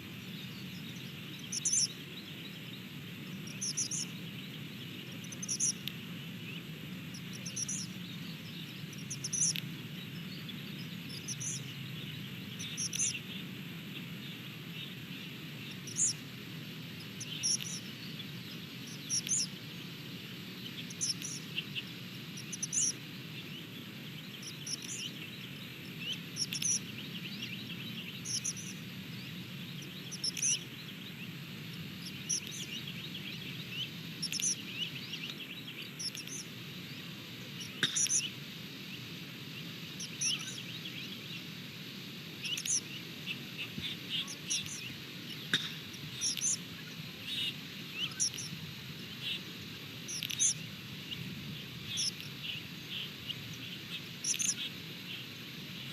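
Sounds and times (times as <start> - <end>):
birds chirping and twittering: 0.0 - 55.9.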